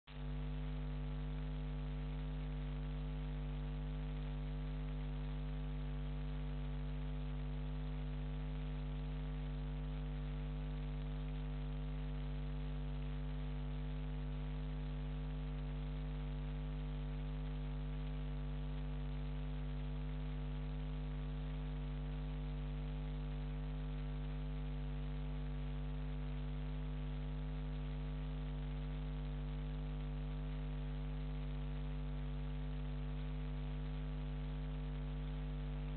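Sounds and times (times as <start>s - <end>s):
electrical mains hum: 0.1s - 35.9s.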